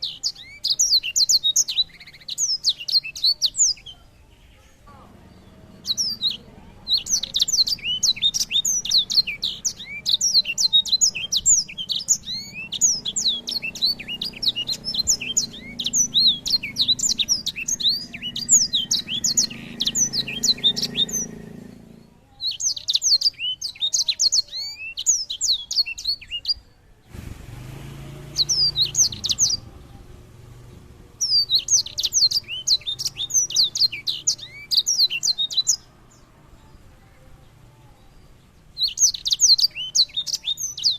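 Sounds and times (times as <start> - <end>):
songbird twittering: 0.0 - 4.1, 5.2 - 26.7, 27.5 - 36.4, 38.0 - 40.9.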